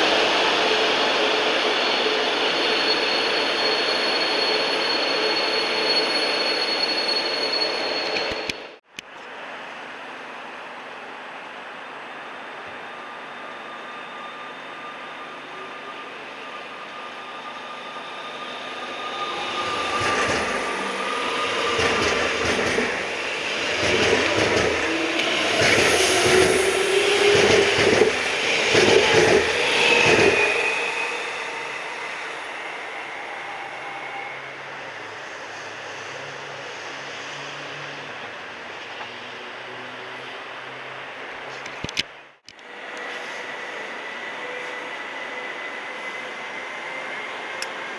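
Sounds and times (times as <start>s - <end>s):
train passing: 0.0s - 41.6s, 42.6s - 47.9s.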